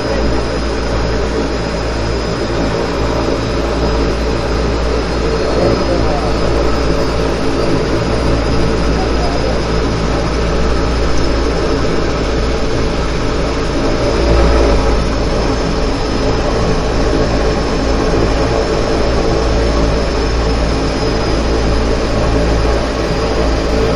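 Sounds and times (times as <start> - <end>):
high engine whine: 0.0 - 23.9
turboprop engines droning: 0.0 - 23.9.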